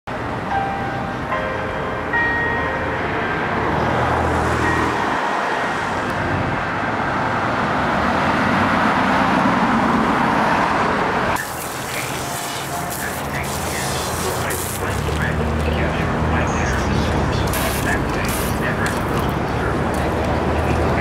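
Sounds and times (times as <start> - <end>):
rush of passing vehicles: 0.1 - 21.0.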